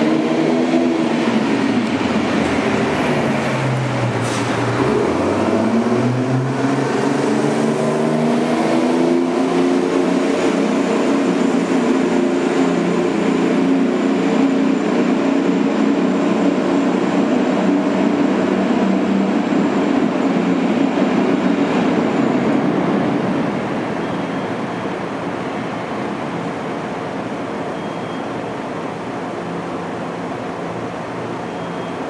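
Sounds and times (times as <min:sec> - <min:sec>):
bus diesel engine accelerating: 0:00.0 - 0:27.7.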